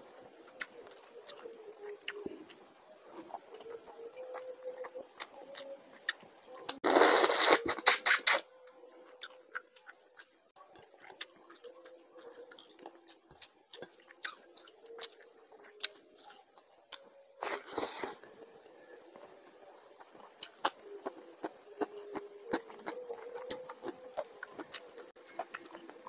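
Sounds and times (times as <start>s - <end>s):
person chewing food: 0.0s - 18.2s, 20.0s - 26.0s.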